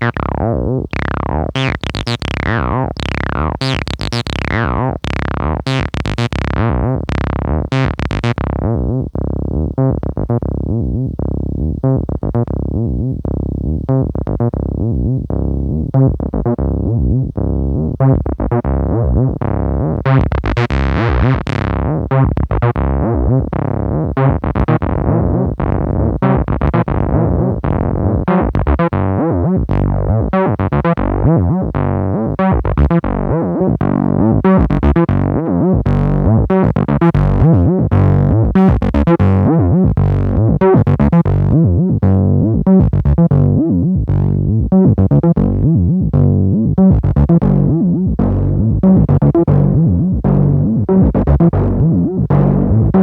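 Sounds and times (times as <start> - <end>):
synthesiser bass line: 0.0 - 53.0.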